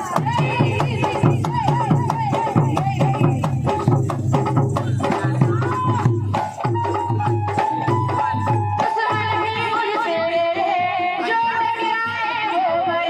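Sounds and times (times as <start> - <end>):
woman singing: 0.0 - 4.1, 4.8 - 13.0
fast drum beat: 0.0 - 12.2.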